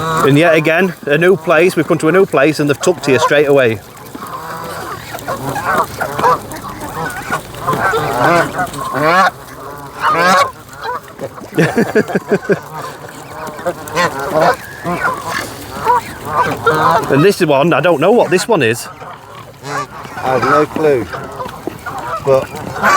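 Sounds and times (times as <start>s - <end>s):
geese honking: 0.0s - 22.9s.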